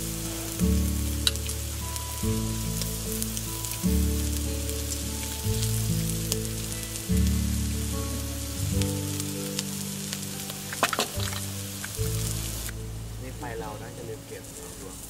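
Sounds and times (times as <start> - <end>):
meat sizzling on grill pan: 0.0 - 12.8
background music of sustained chords: 0.0 - 15.0.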